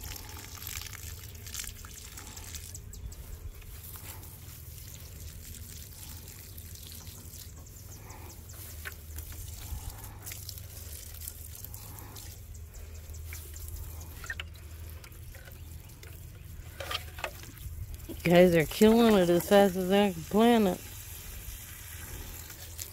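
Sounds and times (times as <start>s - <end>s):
water trickling onto soil and leaves: 0.0s - 22.9s.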